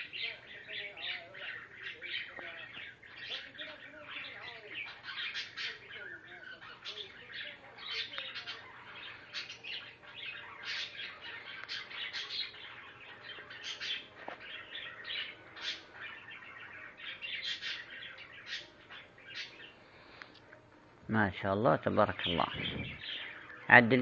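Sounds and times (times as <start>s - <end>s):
budgerigars warbling and chirping: 0.0s - 20.3s, 21.8s - 24.0s.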